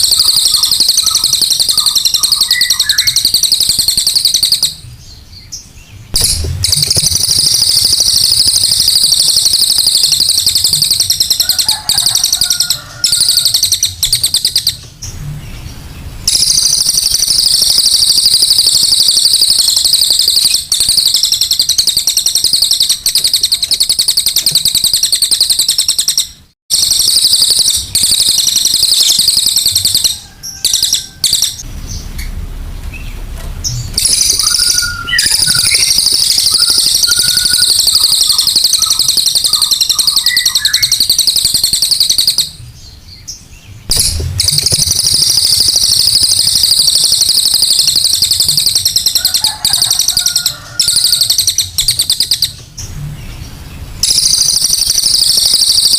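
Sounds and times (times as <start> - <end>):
bird chattering: 0.0 - 4.9, 6.1 - 14.9, 15.6 - 32.2, 33.7 - 42.7, 43.9 - 52.7.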